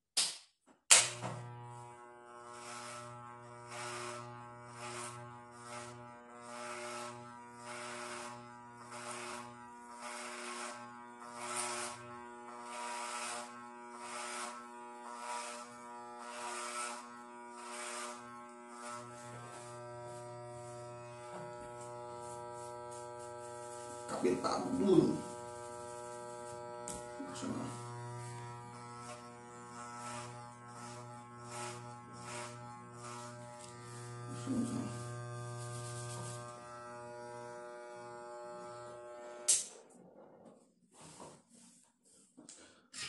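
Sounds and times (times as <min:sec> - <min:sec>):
electric hair clippers buzzing: 0:00.9 - 0:40.0.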